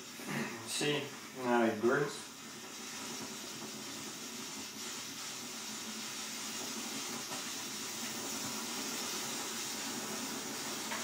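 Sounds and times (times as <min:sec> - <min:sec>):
camping stove burner hissing: 0:00.0 - 0:11.0.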